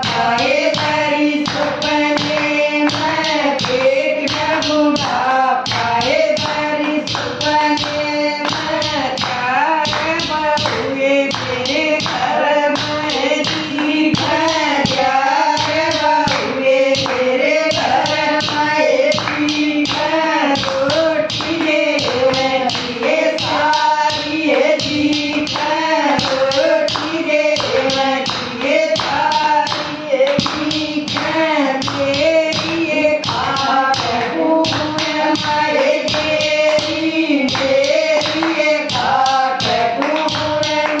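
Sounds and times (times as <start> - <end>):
women singing devotional song: 0.0 - 41.0
hand claps and taps: 0.8 - 15.0, 15.6 - 41.0.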